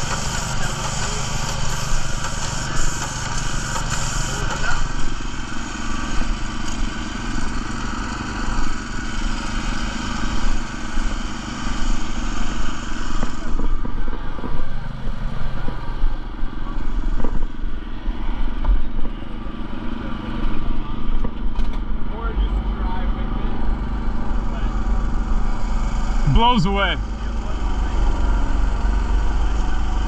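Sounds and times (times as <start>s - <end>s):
small gasoline engine running: 0.0s - 30.0s.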